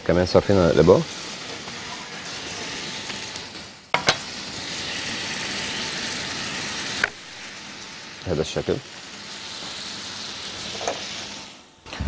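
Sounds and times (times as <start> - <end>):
food sizzling in frying pans: 0.0 - 12.0.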